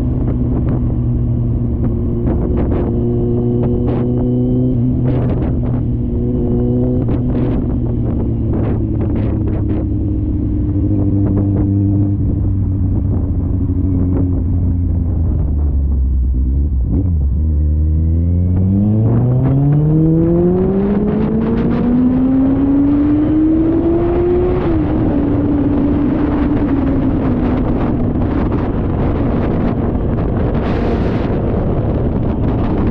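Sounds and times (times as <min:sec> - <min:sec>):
motorcycle engine accelerating: 0:00.0 - 0:32.9
wind buffeting microphone: 0:00.0 - 0:32.9.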